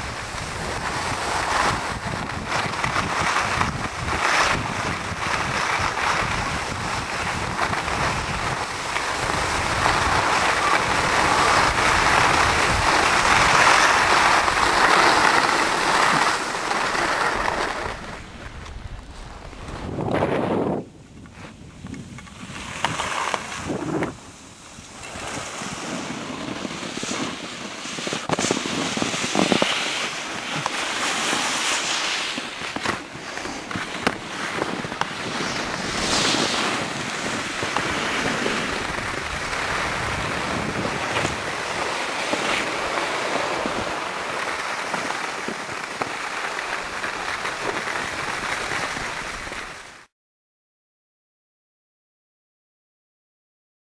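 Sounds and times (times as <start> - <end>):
wind on microphone: 0.0 - 31.3, 32.2 - 44.2
skis hissing over snow: 0.0 - 50.1.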